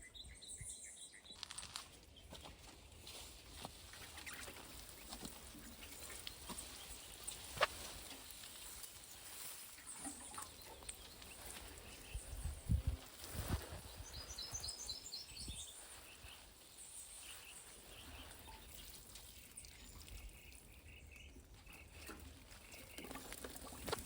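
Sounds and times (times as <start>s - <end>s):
bird chirping: 0.0s - 2.4s, 4.0s - 24.0s.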